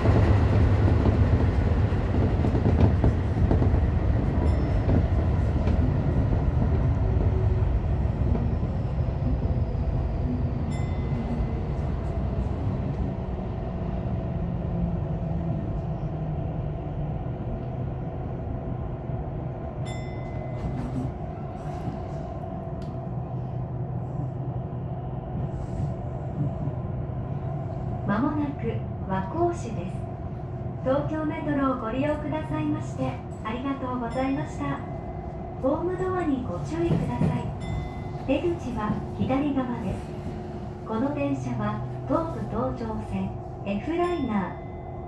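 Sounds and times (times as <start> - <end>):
electric train rumbling on rails: 0.0 - 45.0.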